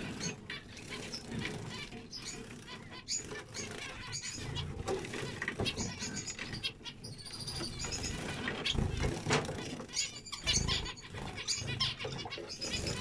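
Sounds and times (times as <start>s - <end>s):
finches nasal calls: 0.0s - 13.0s.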